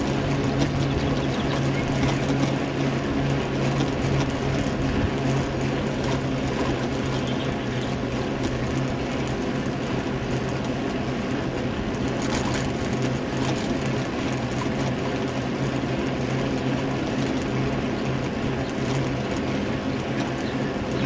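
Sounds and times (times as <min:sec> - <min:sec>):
tyres on road: 0:00.0 - 0:21.0.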